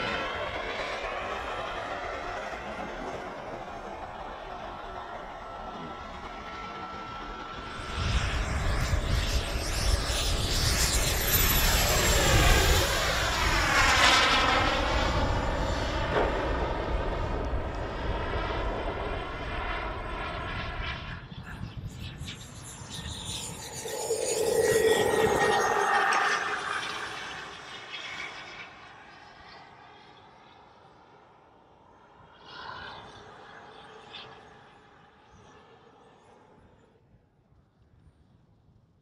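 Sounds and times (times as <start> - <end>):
jet turbine engine roaring: 0.0 - 36.8.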